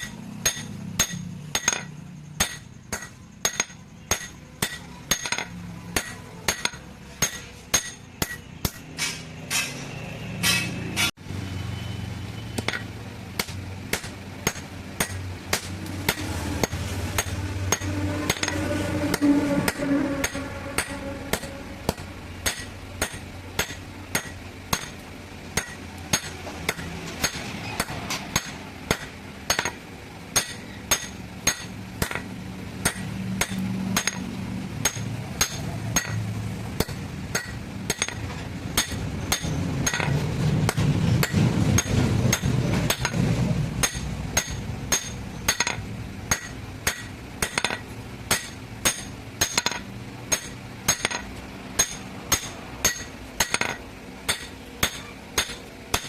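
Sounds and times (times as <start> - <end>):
hammer striking metal anvil: 0.0 - 11.2, 12.6 - 25.0, 25.6 - 43.2, 43.8 - 56.0.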